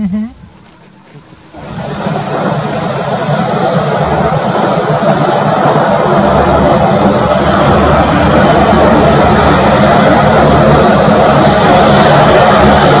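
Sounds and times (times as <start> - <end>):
jet engines running: 0.4 - 13.0.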